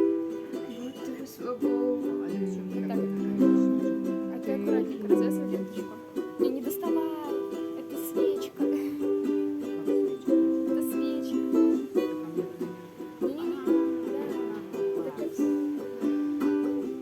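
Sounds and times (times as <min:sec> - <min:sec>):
ukulele music: 0:00.0 - 0:17.0.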